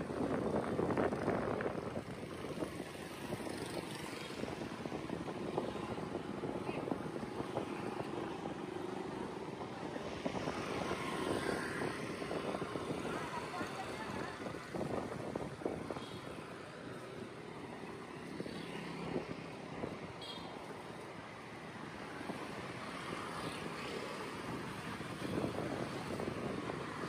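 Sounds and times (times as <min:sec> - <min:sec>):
vehicle traffic hum: 0:00.0 - 0:27.0.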